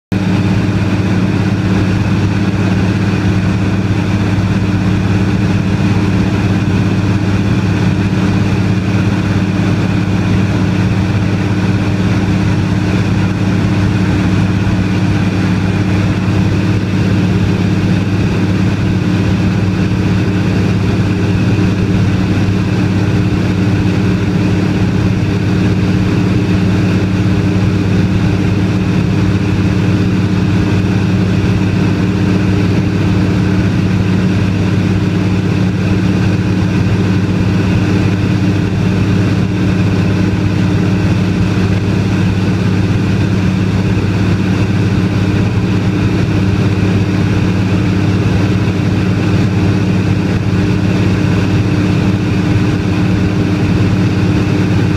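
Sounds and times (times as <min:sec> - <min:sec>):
air noise: 0:00.1 - 0:54.9
propeller plane engine drone: 0:00.1 - 0:54.9.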